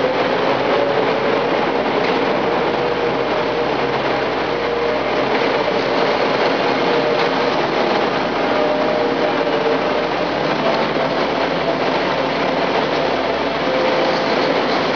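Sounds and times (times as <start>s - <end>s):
loader engine running: 0.0s - 14.9s.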